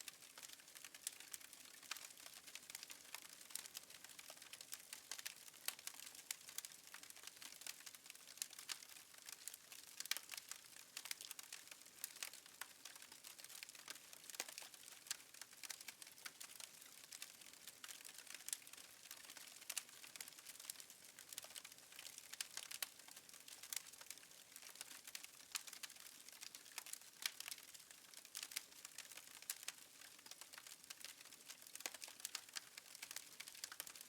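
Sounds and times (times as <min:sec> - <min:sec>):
wood fire crackling: 0:00.1 - 0:34.0.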